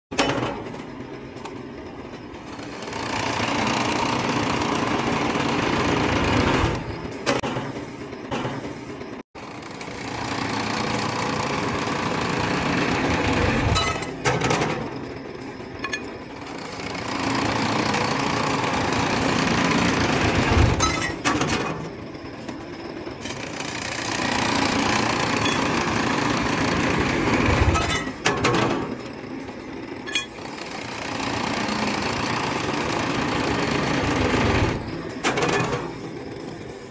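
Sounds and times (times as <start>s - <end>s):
metal spinning machine noise: 0.1s - 36.9s.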